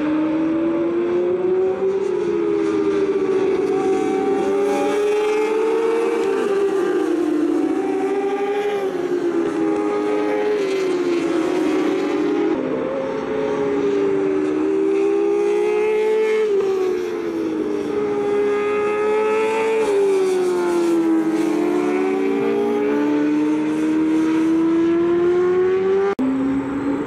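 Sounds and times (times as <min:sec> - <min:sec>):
racing motorcycles at high revs: 0:00.0 - 0:27.0.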